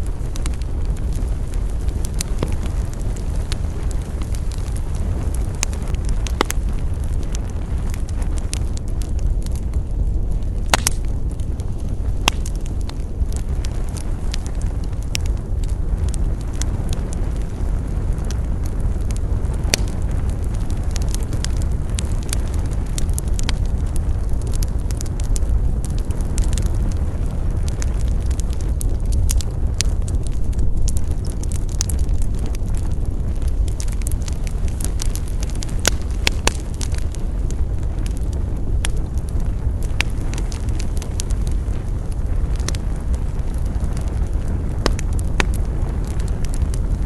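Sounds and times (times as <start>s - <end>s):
campfire crackling: 0.0s - 47.0s
low rumble of fire: 0.0s - 47.0s.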